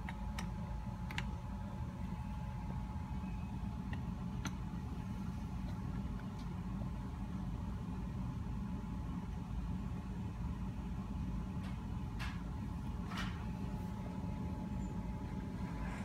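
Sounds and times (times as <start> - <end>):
low mechanical rumble: 0.0 - 16.0
thin steady whine: 0.0 - 16.0.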